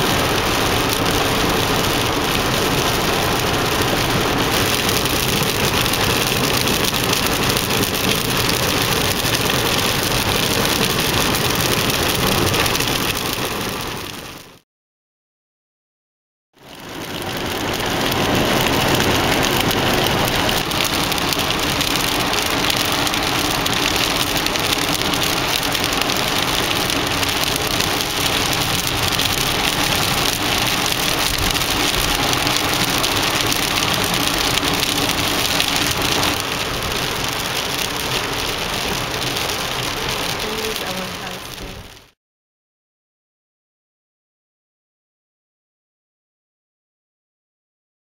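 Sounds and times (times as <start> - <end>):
heavy rain on car roof: 0.0 - 14.6, 16.6 - 42.2.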